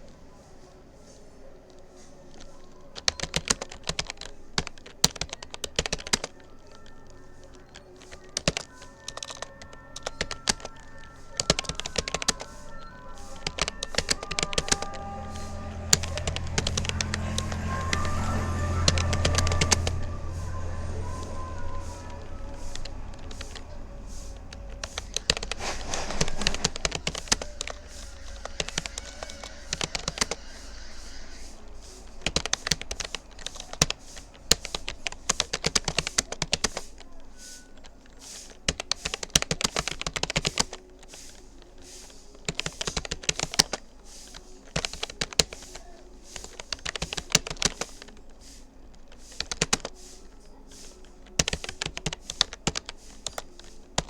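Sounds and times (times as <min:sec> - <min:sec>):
fast keyboard typing: 0:01.6 - 0:54.0.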